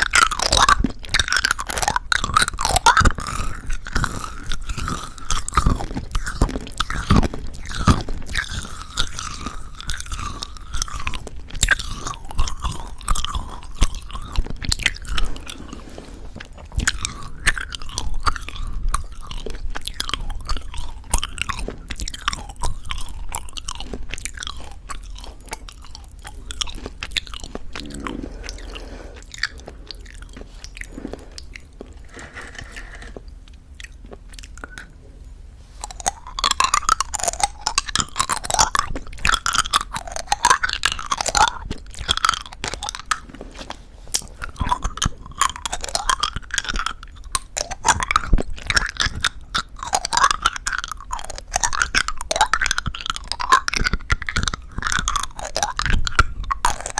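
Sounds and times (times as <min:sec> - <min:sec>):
crunchy candy chewing: 0:00.0 - 0:56.9.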